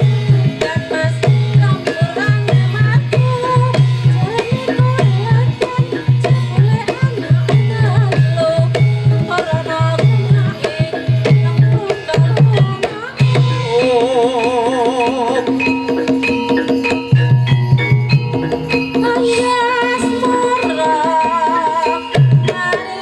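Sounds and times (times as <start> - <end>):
ringing metallophones: 0.0 - 23.0
wavering held melody: 0.0 - 23.0.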